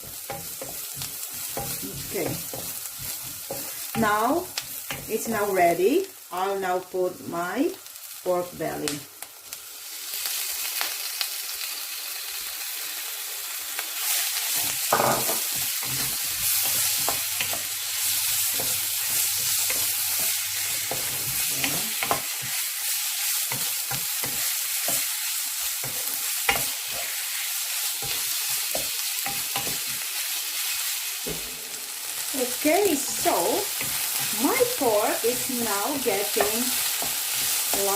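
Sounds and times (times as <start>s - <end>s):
meat sizzling in oil: 0.0s - 37.9s.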